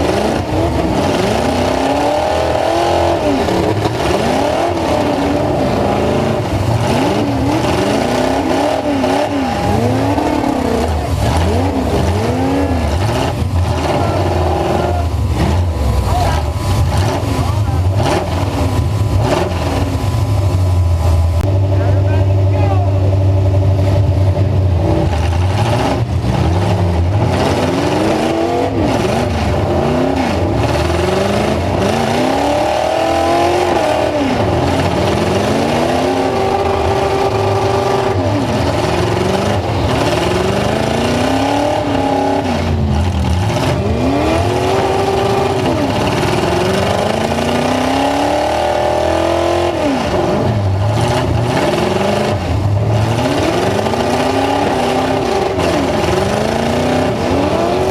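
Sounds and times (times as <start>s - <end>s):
pickup truck engine revving: 0.0s - 57.9s.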